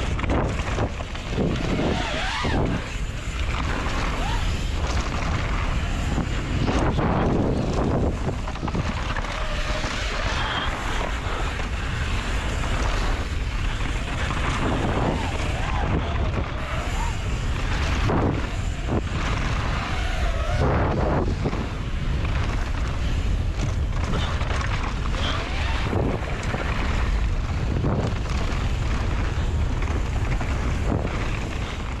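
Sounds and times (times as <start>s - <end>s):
faint gliding whines: 0.0s - 32.0s
wind rushing over microphone: 0.0s - 32.0s.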